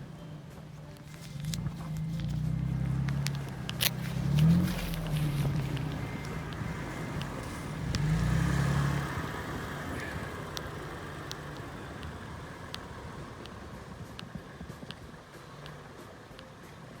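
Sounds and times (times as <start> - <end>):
off-road engine revving: 1.4 - 16.3.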